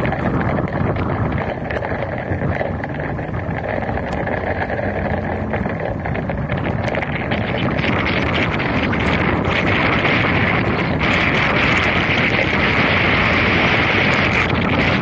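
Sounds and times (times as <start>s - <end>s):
low engine hum: 0.0s - 15.0s
raindrops ticking on camera: 0.0s - 15.0s
tyres on wet road: 0.0s - 15.0s
wind on microphone: 0.0s - 15.0s.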